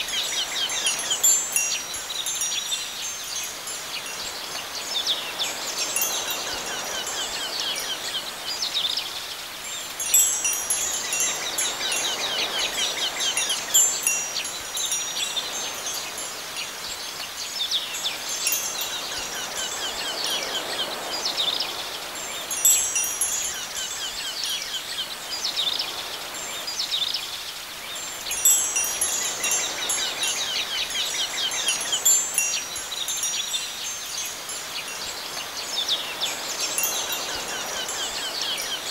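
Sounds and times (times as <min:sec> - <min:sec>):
wind chimes tinkling: 0:00.0 - 0:38.9.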